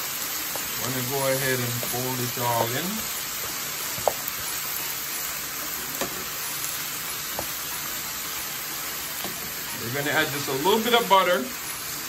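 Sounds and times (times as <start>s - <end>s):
vegetables sizzling in a pan: 0.0s - 12.0s
water hissing in oil: 0.0s - 12.0s.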